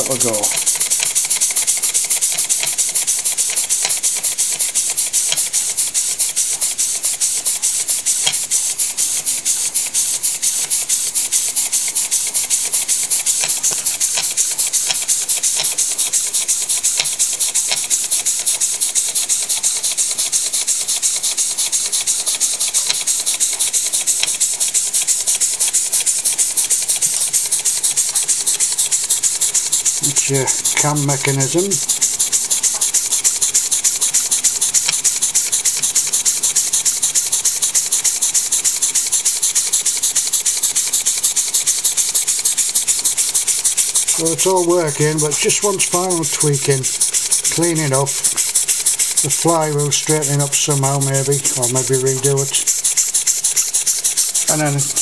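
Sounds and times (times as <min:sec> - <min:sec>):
model engine hissing puffs: 0:00.0 - 0:55.0.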